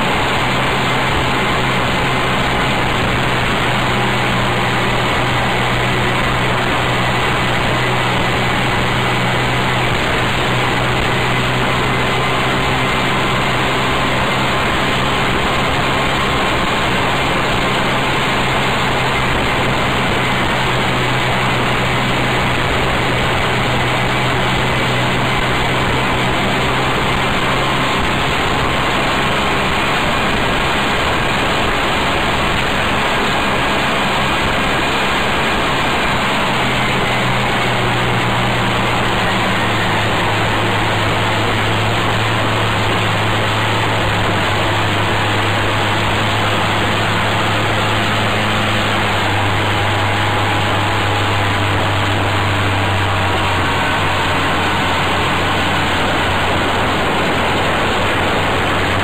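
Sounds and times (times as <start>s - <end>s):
road noise: 0.0s - 59.0s
small engine running: 0.0s - 59.0s
wind noise: 0.0s - 59.0s.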